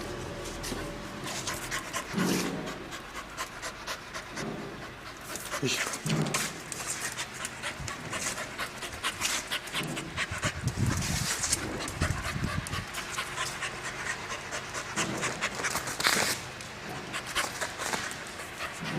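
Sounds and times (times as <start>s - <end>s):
dog low rumble: 0.0s - 18.9s
dog panting rapidly: 0.7s - 16.3s, 16.9s - 18.9s.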